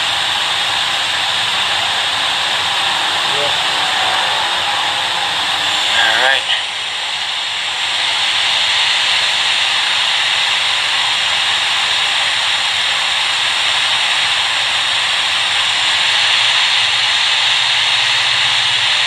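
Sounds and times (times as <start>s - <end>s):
hot air blower hissing: 0.0s - 19.0s.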